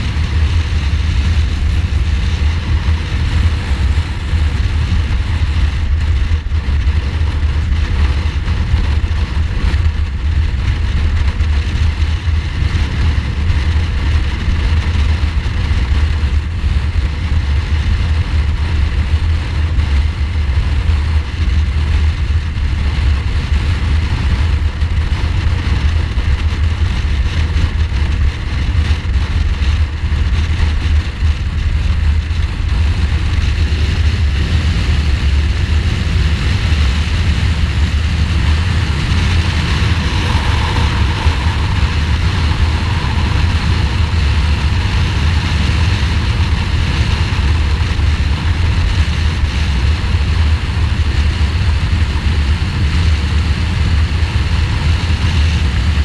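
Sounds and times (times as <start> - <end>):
motorcycle engine cruising: 0.0 - 56.0
wind rumble on microphone: 0.0 - 56.0.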